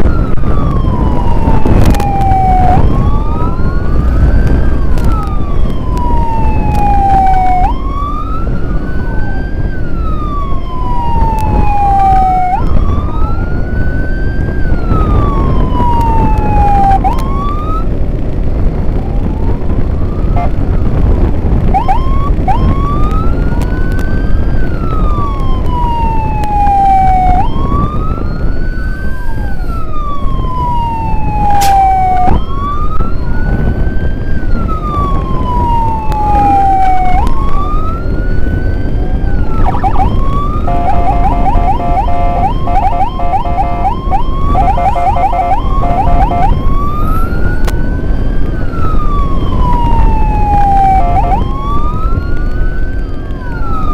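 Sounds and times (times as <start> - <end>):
siren yelps: 0.0 - 17.9, 19.0 - 21.0, 21.6 - 53.9
second siren sweeping: 0.0 - 18.0, 18.9 - 53.9
siren wailing: 0.0 - 18.0, 18.8 - 53.9
road and wind rumble: 0.0 - 53.9.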